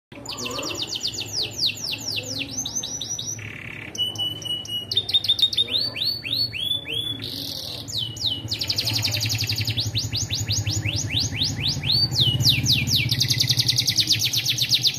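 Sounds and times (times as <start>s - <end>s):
canary singing trills: 0.1s - 14.9s.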